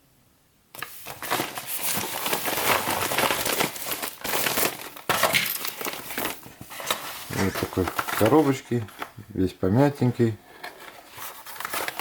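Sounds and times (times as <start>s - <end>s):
packaging crinkling and rustling: 0.8s - 9.2s, 10.6s - 12.0s.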